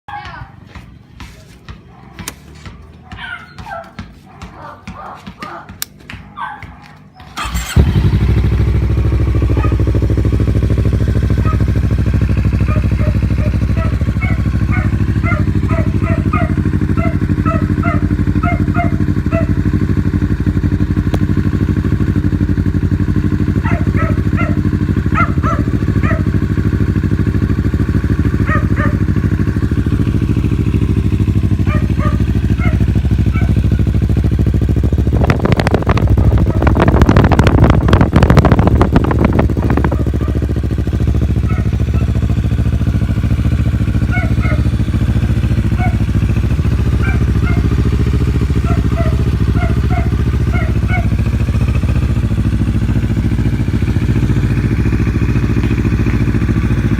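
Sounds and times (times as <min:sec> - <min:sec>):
motorcycle engine idling and revving: 0:00.1 - 0:56.9.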